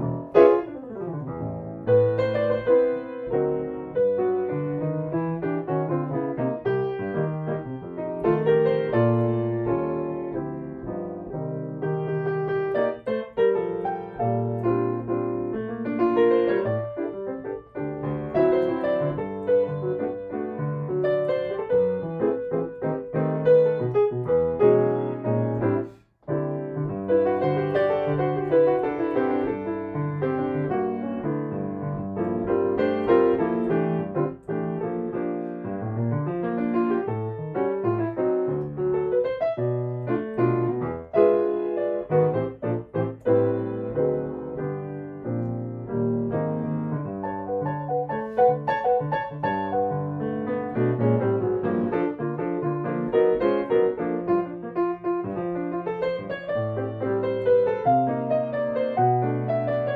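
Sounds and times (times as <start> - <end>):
solo jazz piano: 0.0 - 59.9.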